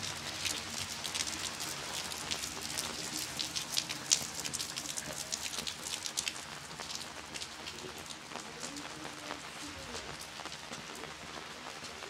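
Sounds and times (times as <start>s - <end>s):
raindrops ticking sharply: 0.0s - 12.0s
steady rain: 0.0s - 12.0s.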